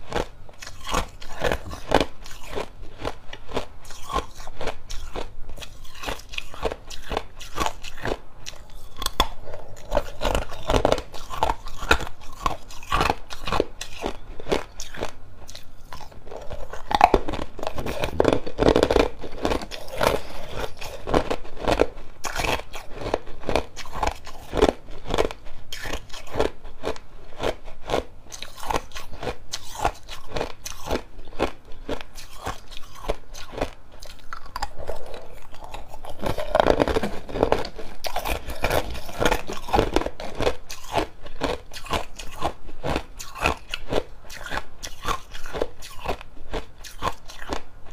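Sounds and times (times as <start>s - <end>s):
ice cubes crunching while chewed: 0.0s - 47.7s.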